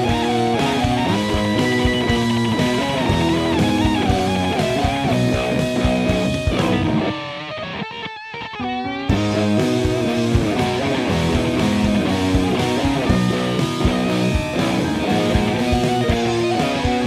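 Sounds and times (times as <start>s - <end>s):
rock song with electric guitar: 0.0s - 17.0s.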